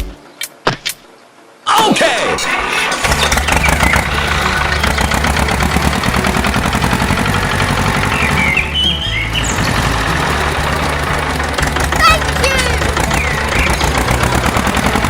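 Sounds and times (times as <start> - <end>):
tractor engine idling: 2.7 - 15.0.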